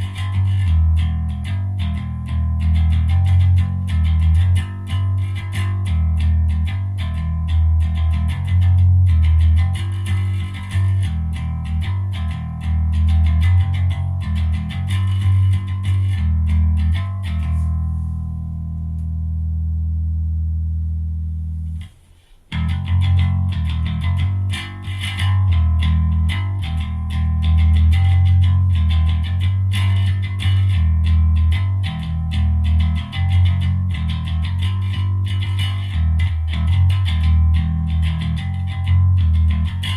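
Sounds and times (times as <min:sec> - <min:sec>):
electric bass guitar notes: 0:00.0 - 0:39.9.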